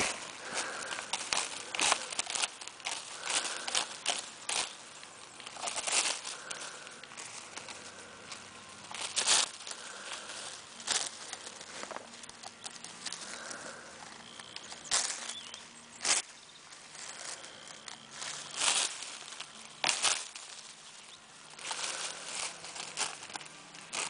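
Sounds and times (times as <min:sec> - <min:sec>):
tree branches and leaves rustling: 0:00.0 - 0:24.0.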